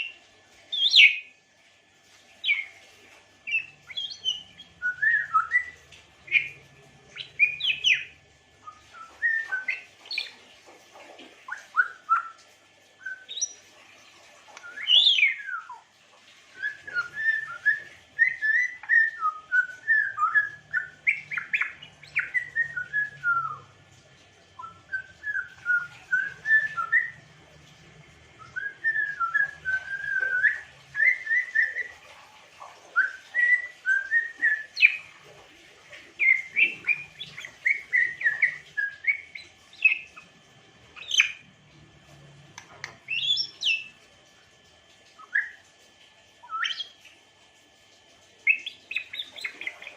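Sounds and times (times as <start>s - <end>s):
parrot whistling and chirping: 0.0s - 1.3s, 2.4s - 10.5s, 11.3s - 13.8s, 14.5s - 15.9s, 16.5s - 23.8s, 24.6s - 27.3s, 28.4s - 41.5s, 42.1s - 44.0s, 45.2s - 45.7s, 46.4s - 47.2s, 48.4s - 49.9s.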